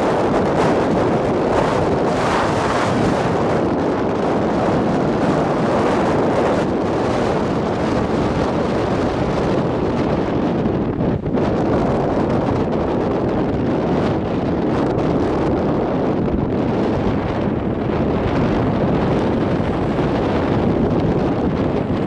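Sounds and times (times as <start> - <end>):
loud wind rushing over microphone: 0.0 - 22.0.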